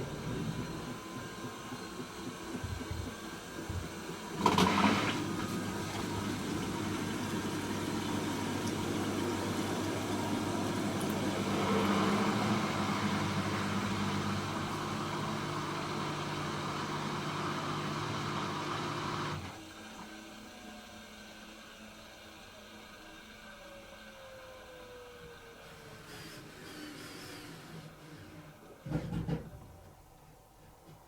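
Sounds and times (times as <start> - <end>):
washing machine running: 0.0 - 30.5.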